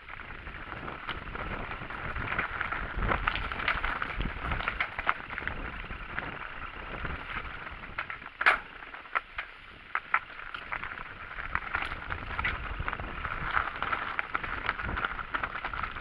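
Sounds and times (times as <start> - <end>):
bike clicks and rattles: 0.0 - 16.0
bike rolling over rough trail: 0.0 - 16.0.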